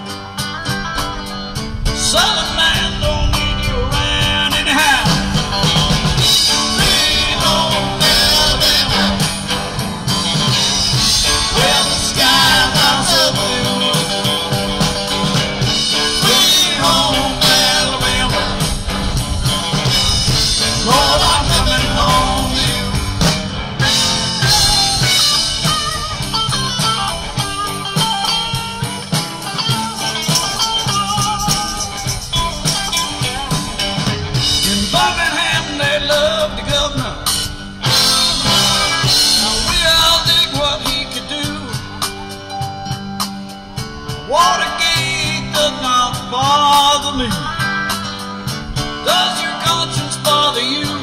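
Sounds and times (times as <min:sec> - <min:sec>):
lead guitar bending notes: 0:00.0 - 0:51.0
rock band playing: 0:00.0 - 0:51.0.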